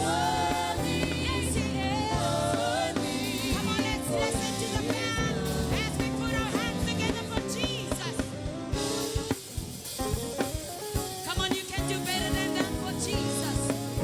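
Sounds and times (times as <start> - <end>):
drum kit beat: 0.0 - 14.0
gospel band music: 0.0 - 14.0.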